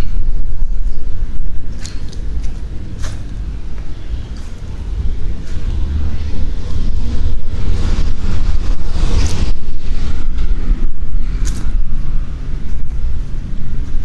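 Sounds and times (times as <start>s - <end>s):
faint street ambience: 0.0s - 14.0s
wind buffeting microphone: 0.0s - 14.0s.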